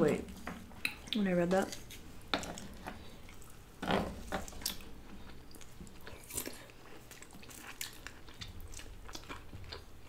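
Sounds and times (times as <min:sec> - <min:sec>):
close-up chewing: 0:01.8 - 0:10.0.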